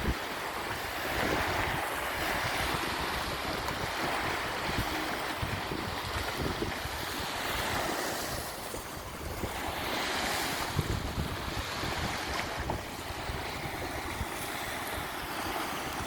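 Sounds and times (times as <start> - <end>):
sea waves breaking on beach: 0.0 - 16.0
wind buffeting microphone: 0.0 - 16.0.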